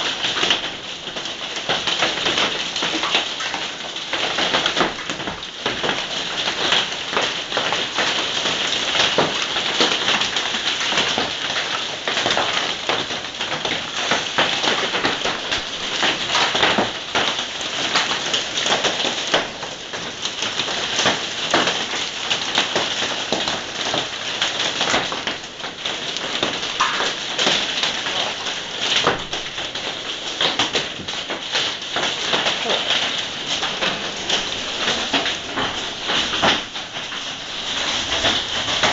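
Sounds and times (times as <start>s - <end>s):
hail and rain pelting down: 0.0s - 38.9s.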